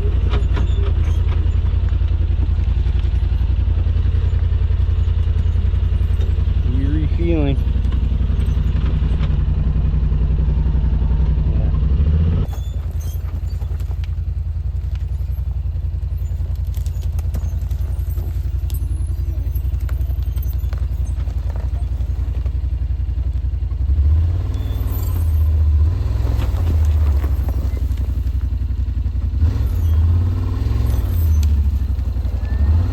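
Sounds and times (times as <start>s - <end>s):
knocks and rattles: 0.0s - 9.8s, 12.4s - 23.9s, 24.6s - 32.6s
utility vehicle engine running: 0.0s - 32.9s.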